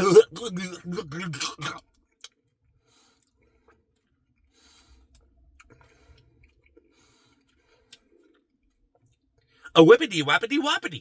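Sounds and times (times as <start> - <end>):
soft chewing: 0.0 - 9.6.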